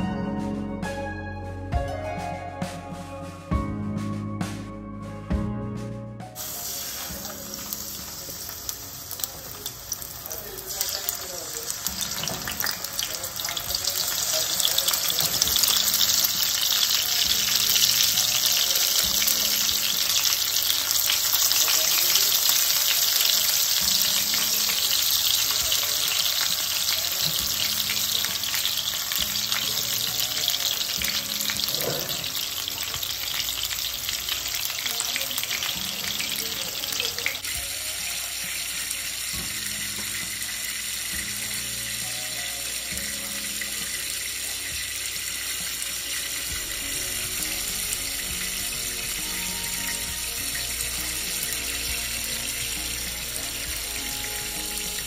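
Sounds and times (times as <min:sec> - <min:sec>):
fish sizzling in hot oil: 0:06.4 - 0:55.0.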